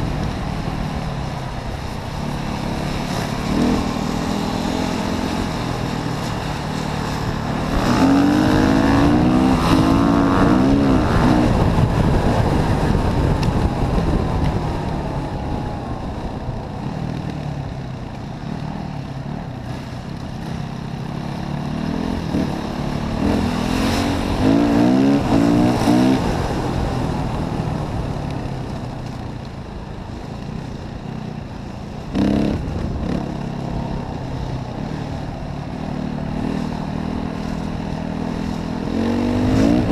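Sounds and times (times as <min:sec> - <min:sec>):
motorcycle engine revving: 0:00.0 - 0:29.4, 0:30.1 - 0:39.9.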